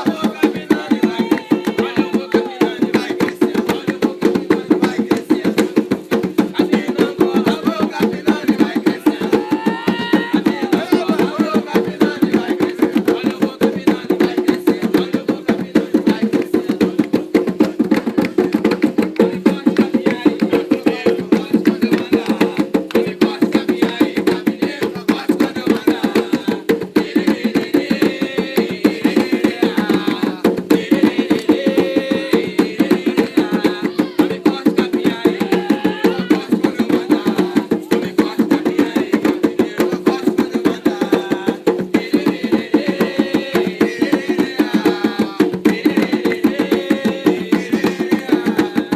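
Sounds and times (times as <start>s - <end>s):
faint singing voices: 0.0s - 17.1s, 18.0s - 48.9s
hand drums in fast rhythm: 0.0s - 48.9s.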